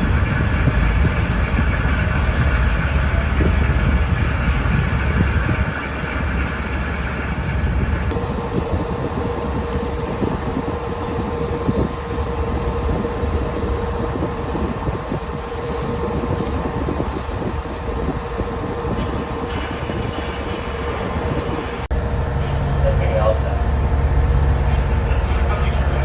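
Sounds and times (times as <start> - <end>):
droning hum: 0.0 - 26.0
ferry engine rumble: 0.0 - 26.0.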